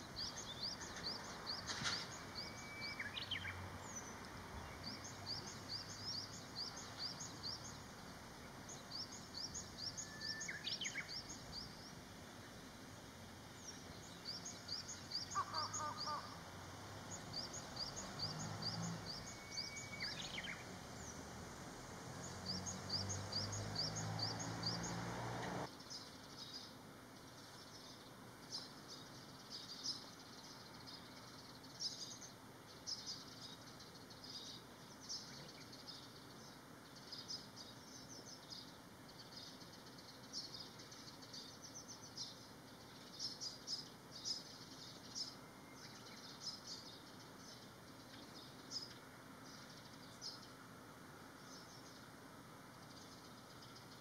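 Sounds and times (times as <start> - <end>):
small birds chirping: 0.0 - 54.0
steady outdoor hum: 0.0 - 54.0.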